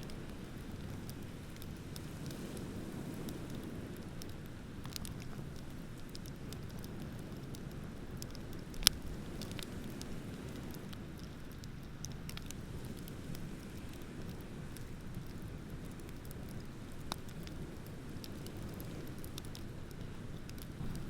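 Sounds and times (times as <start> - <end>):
bonfire crackling and popping: 0.0 - 21.0
low fire rumble: 0.0 - 21.0.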